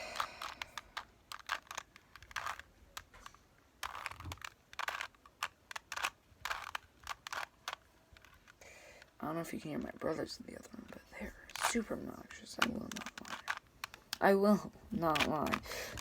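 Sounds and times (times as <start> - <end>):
puzzle cube twisting clicks: 0.0 - 16.0.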